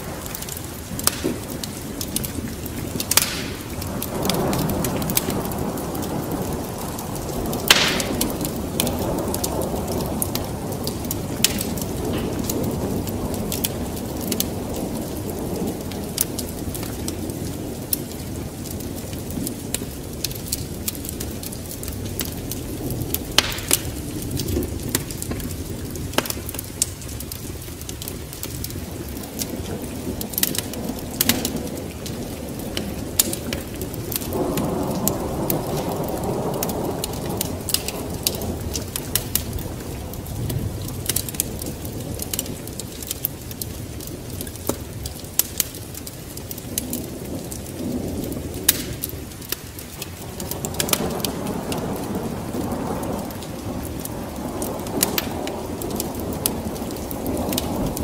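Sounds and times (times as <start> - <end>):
low rolling thunder: 0.0 - 58.0
steady rain: 0.0 - 58.0
wood fire crackling and popping: 0.0 - 58.0.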